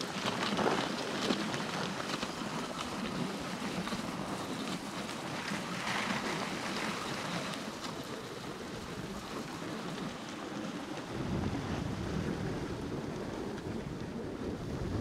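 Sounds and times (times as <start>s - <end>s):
sled runners hissing over snow: 0.0s - 15.0s
wind buffeting microphone: 0.0s - 15.0s.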